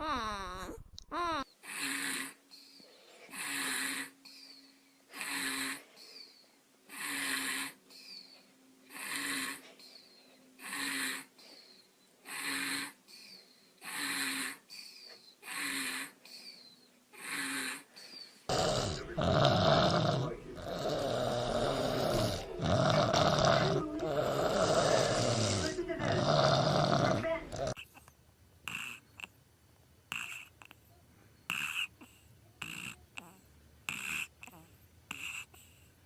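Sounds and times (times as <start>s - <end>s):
baby snoring: 0.0s - 6.3s, 6.9s - 8.2s, 8.9s - 10.0s, 10.6s - 11.6s, 12.2s - 29.4s, 30.1s - 30.8s, 31.5s - 35.9s.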